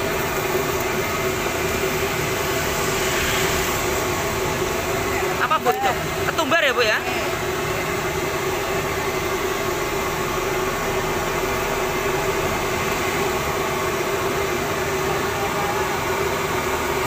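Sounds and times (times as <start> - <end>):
low hum: 0.0 - 6.3, 7.1 - 15.7
steady roar of noise: 0.0 - 17.0.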